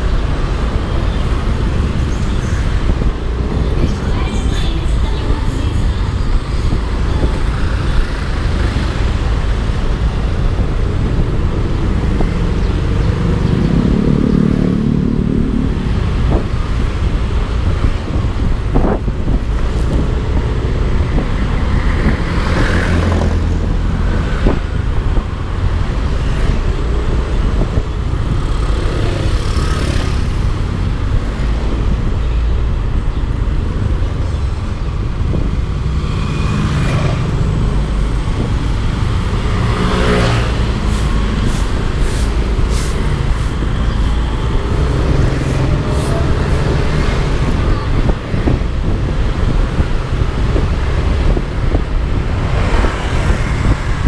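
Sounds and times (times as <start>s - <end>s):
passing vehicles: 0.0s - 54.0s
wind rumble on microphone: 0.0s - 54.0s.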